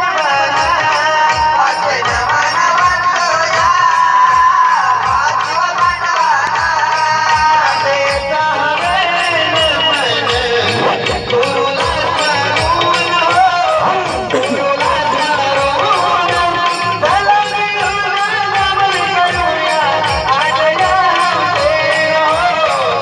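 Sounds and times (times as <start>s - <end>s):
drum beat: 0.0s - 23.0s
voices singing folk song: 0.0s - 23.0s.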